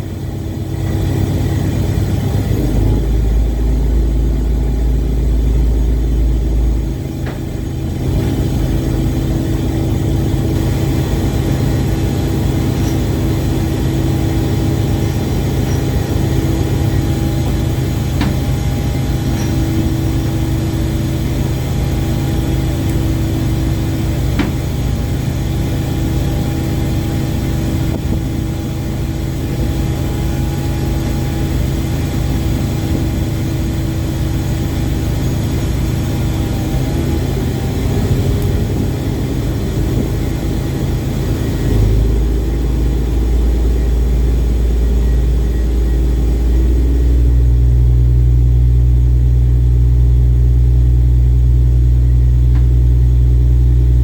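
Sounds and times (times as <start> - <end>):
ship engine droning: 0.0 - 54.0.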